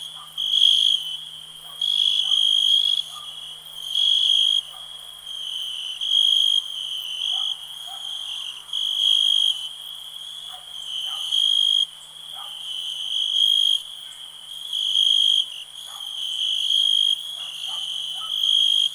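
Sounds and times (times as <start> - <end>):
crickets trilling: 0.0 - 18.9.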